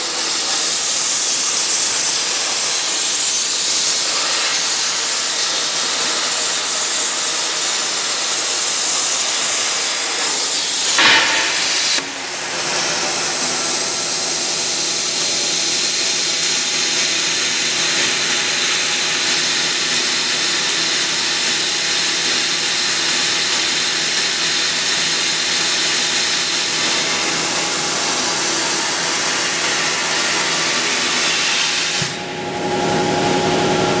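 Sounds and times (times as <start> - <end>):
plasma torch hissing: 0.0 - 32.3.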